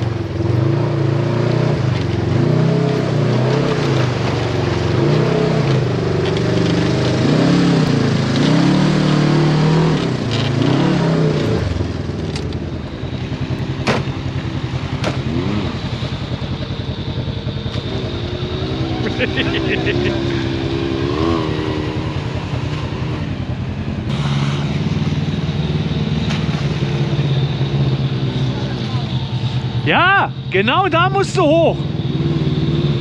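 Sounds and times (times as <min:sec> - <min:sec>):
utility vehicle engine revving: 0:00.0 - 0:33.0.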